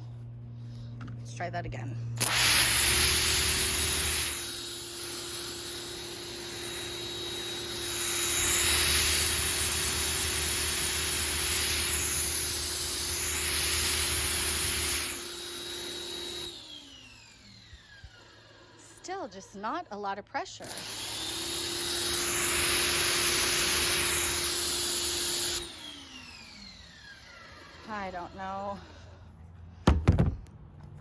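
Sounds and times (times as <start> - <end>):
pressure washer hum: 2.2 - 19.7, 20.6 - 29.2.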